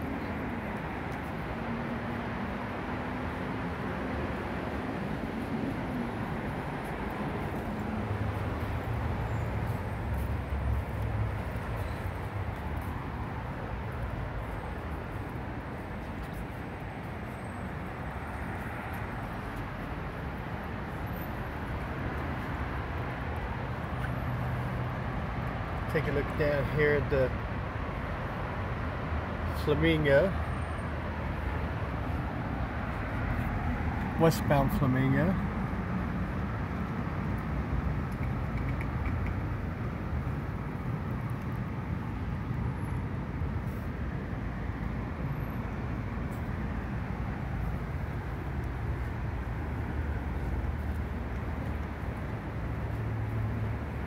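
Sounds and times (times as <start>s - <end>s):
city street traffic: 0.0s - 54.0s.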